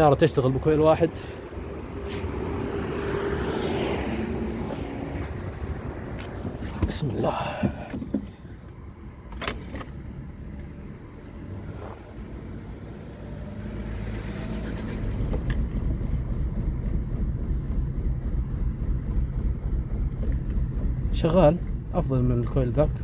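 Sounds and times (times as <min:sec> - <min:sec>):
car engine starting and rumbling: 0:00.0 - 0:23.0.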